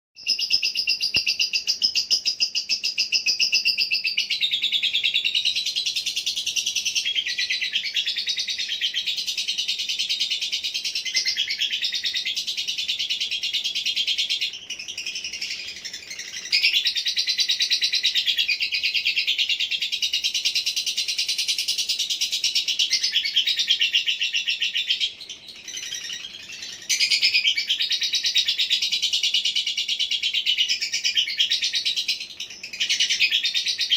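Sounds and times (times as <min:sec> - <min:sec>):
bird trilling chatter: 0:00.2 - 0:33.9.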